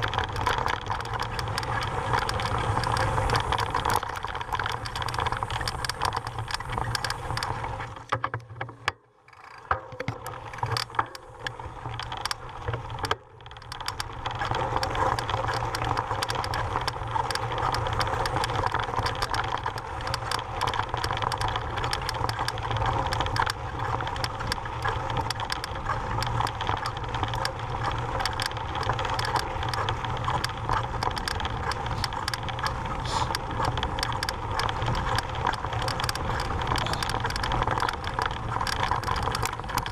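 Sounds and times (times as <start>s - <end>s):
mountain bike rattling: 0.0s - 39.9s.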